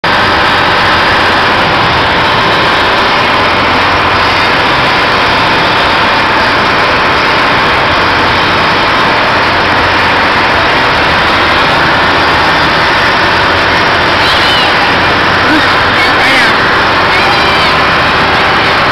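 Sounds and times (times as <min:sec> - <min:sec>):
fairground ride machinery drone: 0:00.0 - 0:18.9.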